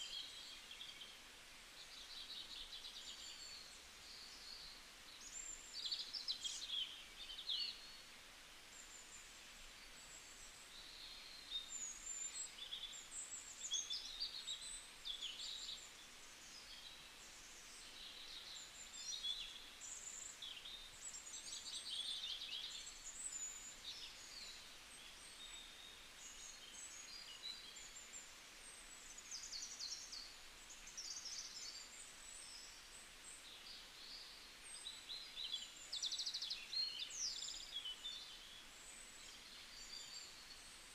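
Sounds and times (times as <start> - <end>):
faint background hiss: 0.0 - 40.9.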